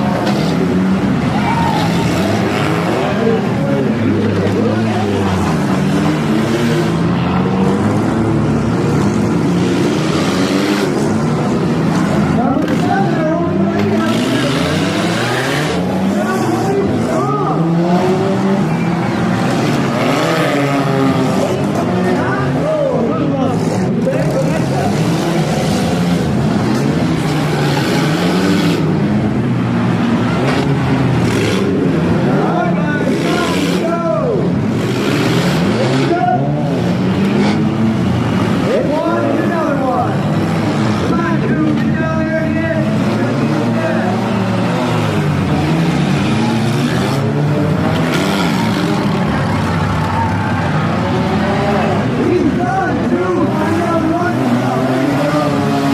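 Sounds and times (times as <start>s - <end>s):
several car engines revving: 0.0s - 55.9s.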